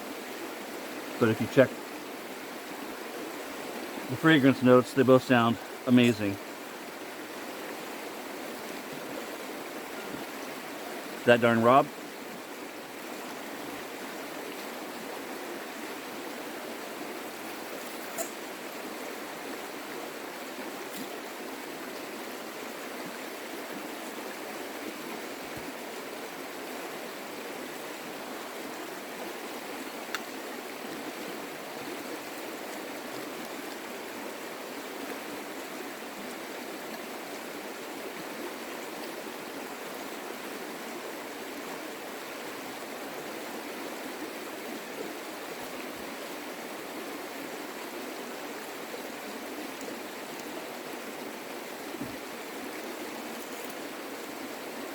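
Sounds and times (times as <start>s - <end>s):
creek water flowing: 0.0s - 54.9s.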